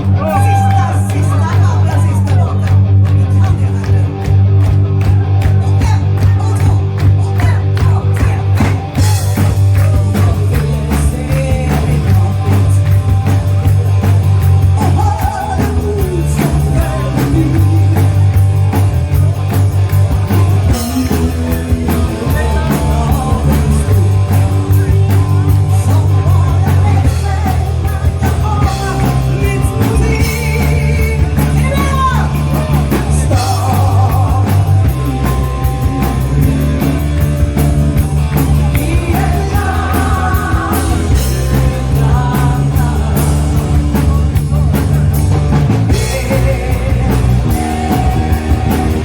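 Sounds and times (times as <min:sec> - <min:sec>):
lead vocalist singing: 0:00.0 - 0:04.0, 0:05.8 - 0:49.0
rock band playing live: 0:00.0 - 0:49.0.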